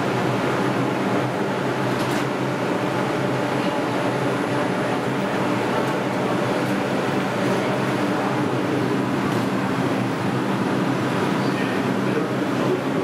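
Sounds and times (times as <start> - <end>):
fans running: 0.0 - 13.0
subway train equipment humming: 0.0 - 13.0.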